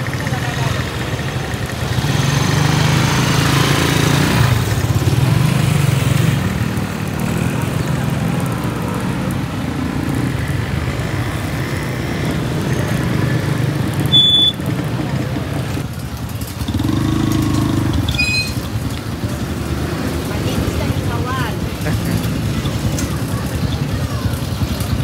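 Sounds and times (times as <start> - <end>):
motorcycles passing: 0.0 - 25.0.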